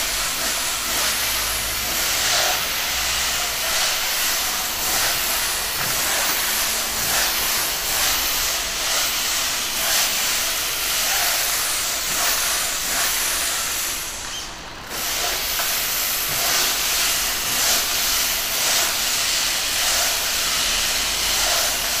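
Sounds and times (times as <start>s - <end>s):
steam cleaner hissing: 0.0s - 22.0s.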